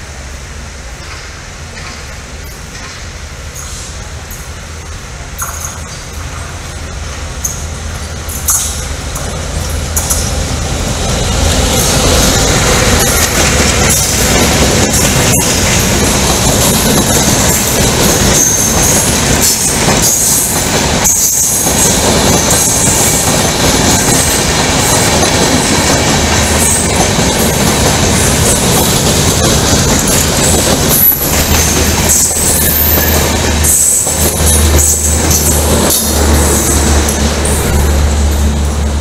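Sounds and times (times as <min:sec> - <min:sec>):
train wheels rumbling and rattling: 0:00.0 - 0:39.0.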